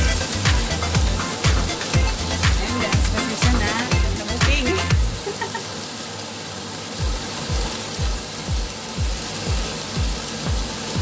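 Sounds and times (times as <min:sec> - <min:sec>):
dance music with kick drum: 0:00.0 - 0:05.2, 0:07.0 - 0:11.0
vegetables frying in a wok: 0:00.0 - 0:11.0.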